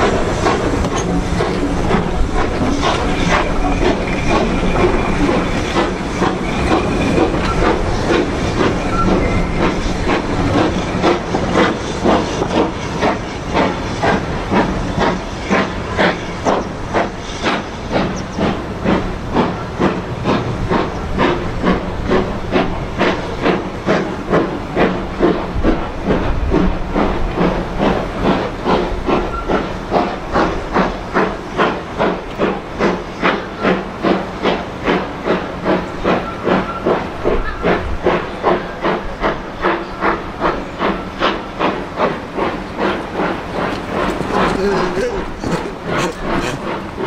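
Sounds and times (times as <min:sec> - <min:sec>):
steam hissing: 0:00.0 - 0:47.0
steam locomotive exhaust beats: 0:00.0 - 0:47.0.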